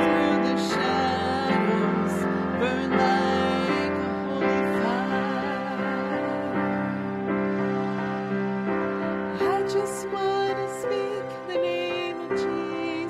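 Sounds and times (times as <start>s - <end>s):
woman singing with vibrato: 0.0s - 7.2s, 9.3s - 13.0s
sustained keyboard chords: 0.0s - 13.0s.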